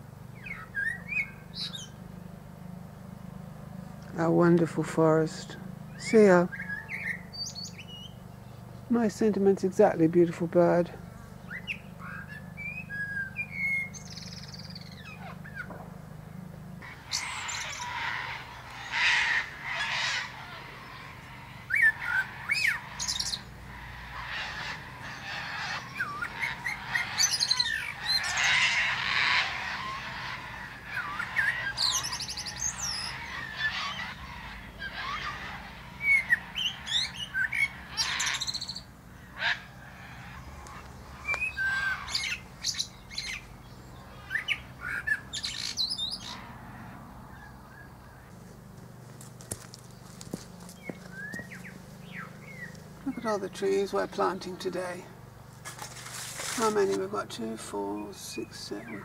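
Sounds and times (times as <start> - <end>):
blackbird singing: 0.2 - 2.3, 5.3 - 10.4, 11.0 - 15.8, 16.8 - 46.4, 49.9 - 55.2, 56.5 - 59.0.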